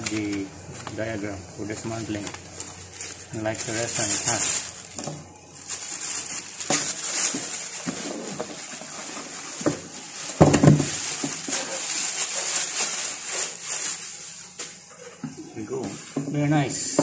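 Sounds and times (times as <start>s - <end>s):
plastic wrapping crinkling: 0.0s - 15.2s.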